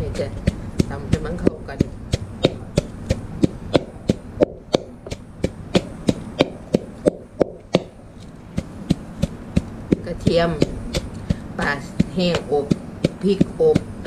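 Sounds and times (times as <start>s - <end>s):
pestle pounding in mortar: 0.0s - 14.0s.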